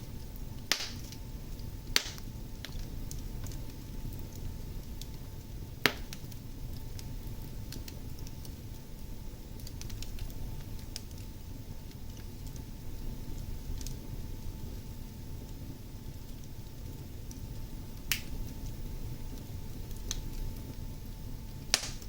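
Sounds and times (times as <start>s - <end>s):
fire burning in fireplace: 0.0s - 22.0s.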